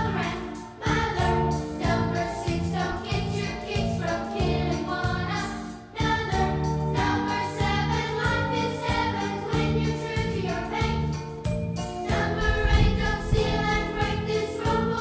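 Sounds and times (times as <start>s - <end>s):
choir singing: 0.0s - 11.3s, 12.0s - 15.0s.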